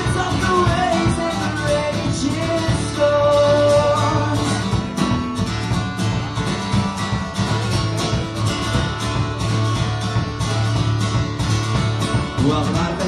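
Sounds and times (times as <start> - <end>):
acoustic guitar strumming: 0.0 - 13.0
drum kit beat: 0.0 - 13.0.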